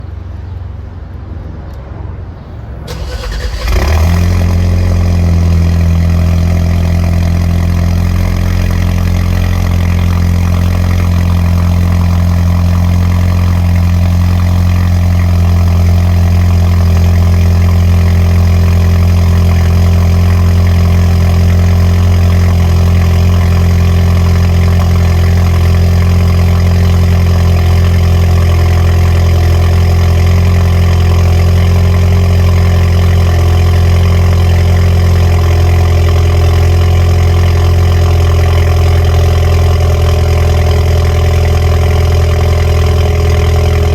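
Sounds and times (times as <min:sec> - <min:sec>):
car engine idling: 0:02.5 - 0:43.9.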